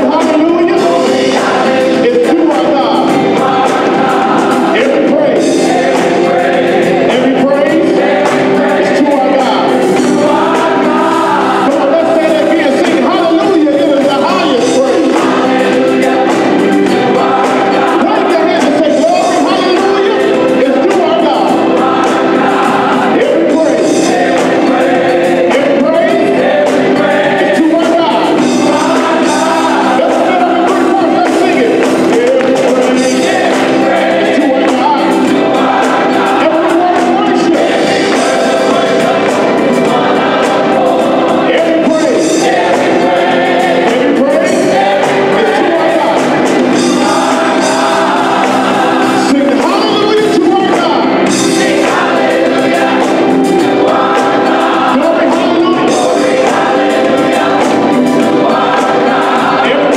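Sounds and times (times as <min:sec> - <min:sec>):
drums: 0:00.0 - 0:13.1, 0:14.0 - 0:59.9
gospel choir singing: 0:00.0 - 0:59.9
organ: 0:00.0 - 0:59.9.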